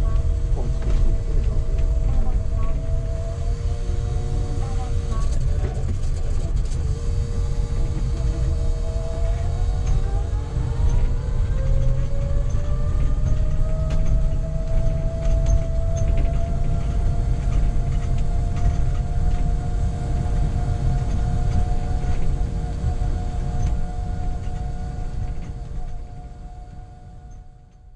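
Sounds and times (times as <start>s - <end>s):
electric drive whine: 0.0s - 27.9s
road rumble inside bus: 0.0s - 27.9s.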